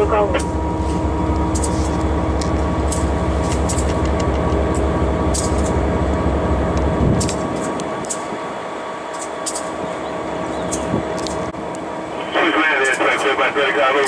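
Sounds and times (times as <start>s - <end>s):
rumbling rattle: 0.0s - 13.3s
locomotive engine drone: 0.0s - 14.0s.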